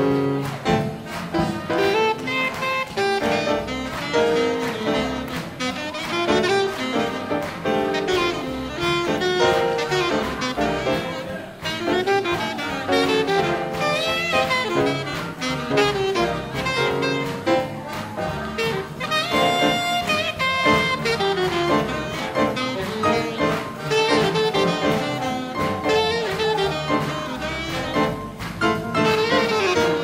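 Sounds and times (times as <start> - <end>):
big band swing jazz: 0.0 - 30.0.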